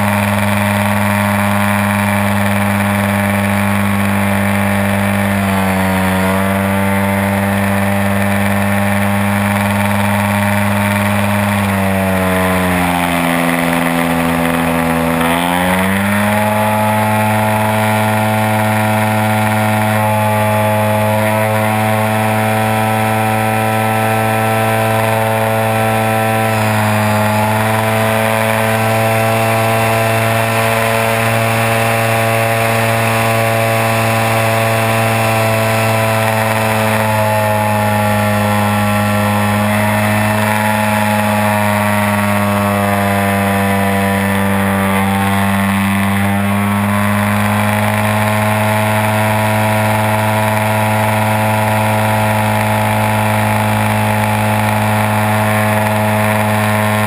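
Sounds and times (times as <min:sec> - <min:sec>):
model plane engine running: 0:00.0 - 0:57.0.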